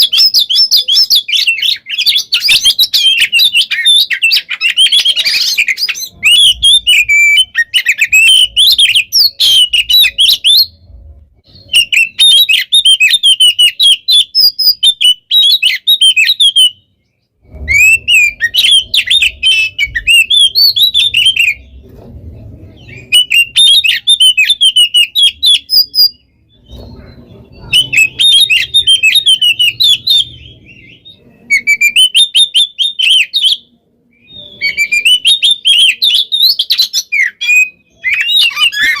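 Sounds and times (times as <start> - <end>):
bird singing whistles and trills: 0.0 - 21.9, 22.6 - 39.0.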